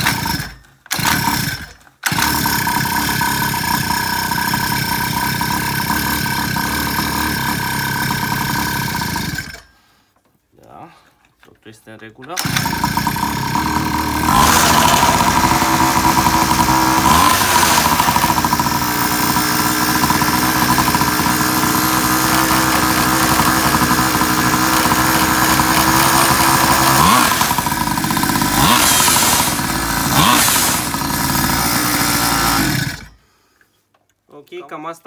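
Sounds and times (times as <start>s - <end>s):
two-stroke engine revving: 0.0s - 9.6s, 12.4s - 33.2s.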